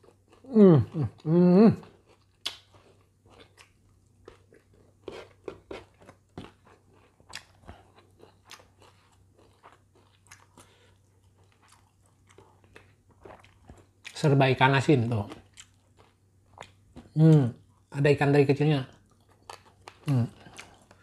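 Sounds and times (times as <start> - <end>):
person chewing food: 0.0 - 14.3, 15.0 - 17.9, 18.9 - 21.0.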